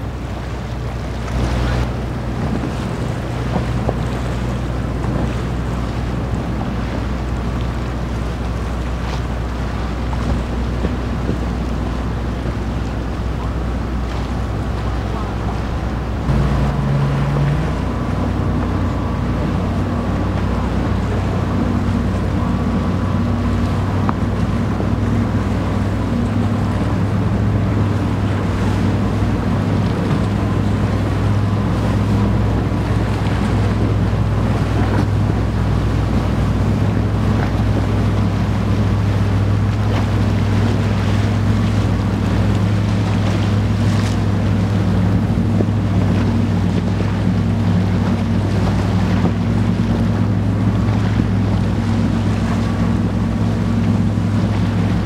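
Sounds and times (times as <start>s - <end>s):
ship diesel engine droning: 0.0s - 55.0s
water washing along hull: 0.0s - 55.0s
wind buffeting microphone: 0.0s - 55.0s.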